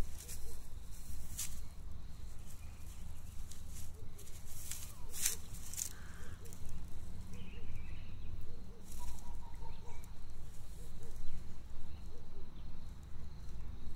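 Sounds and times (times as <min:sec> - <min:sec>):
rustling in dry hay: 0:00.0 - 0:12.2.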